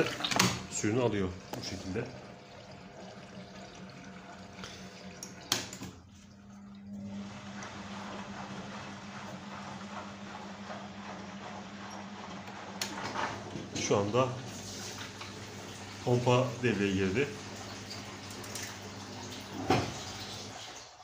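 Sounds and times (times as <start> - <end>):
washing machine filling with water: 0.0 - 21.0.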